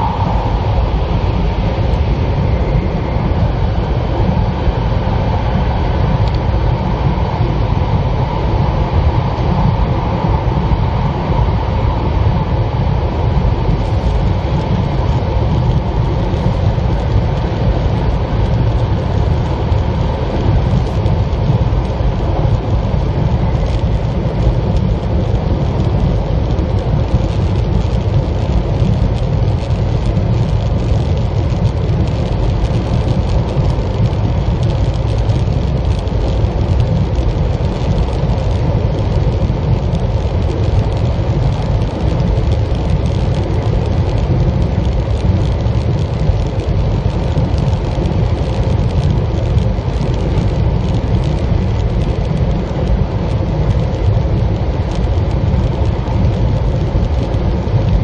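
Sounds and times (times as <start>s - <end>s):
faint steady hum: 0.0s - 58.0s
train rumbling in tunnel: 0.0s - 58.0s.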